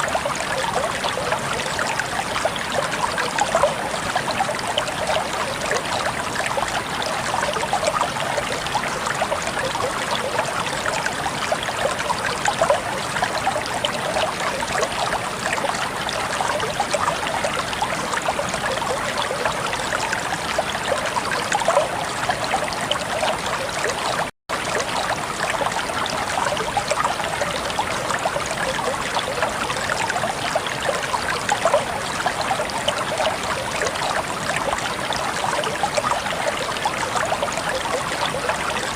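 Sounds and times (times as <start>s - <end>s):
water trickling and babbling: 0.0s - 38.9s.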